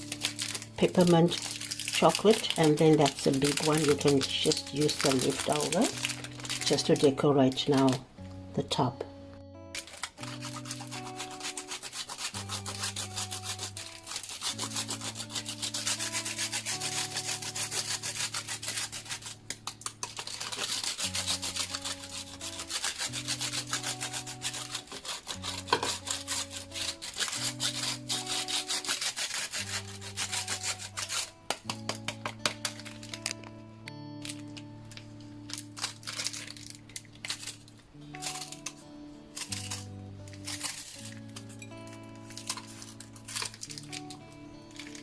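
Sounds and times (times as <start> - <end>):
chocolate being grated: 0.0 - 8.0, 9.8 - 33.4, 34.2 - 45.0
soft music of held notes: 0.0 - 45.0.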